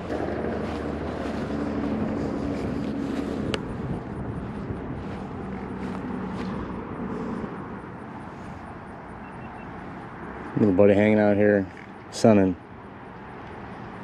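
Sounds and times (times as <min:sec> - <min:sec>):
outdoor rumble: 0:00.0 - 0:12.6
distant engine drone: 0:00.0 - 0:14.0.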